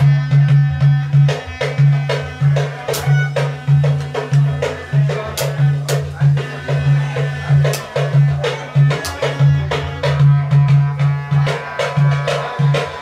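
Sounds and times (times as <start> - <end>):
upbeat music with drum beat: 0.0 - 13.0.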